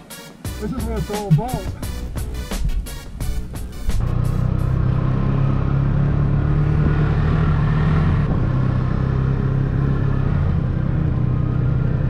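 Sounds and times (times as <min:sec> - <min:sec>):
snowmobile engine running: 0:00.6 - 0:12.0.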